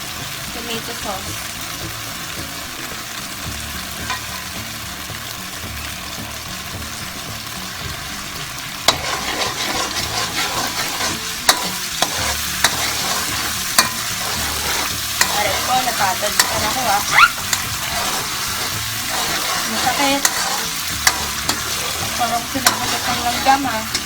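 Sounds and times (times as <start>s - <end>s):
sauce sizzling and spattering in pan: 0.0s - 24.0s.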